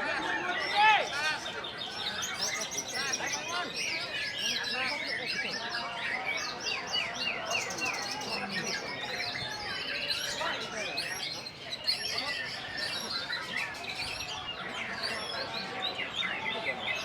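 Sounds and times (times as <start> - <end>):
songbirds whistling and trilling: 1.3 - 17.0.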